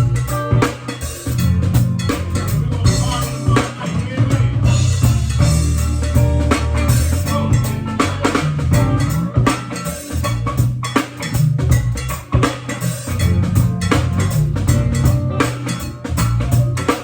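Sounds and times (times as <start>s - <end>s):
band playing: 0.0s - 17.0s
bass line: 0.0s - 17.0s
drum kit groove: 0.0s - 17.0s.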